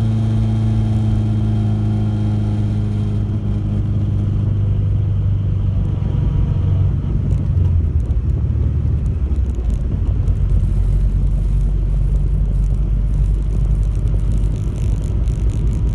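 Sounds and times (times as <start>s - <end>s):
car engine rumbling: 0.0s - 15.9s.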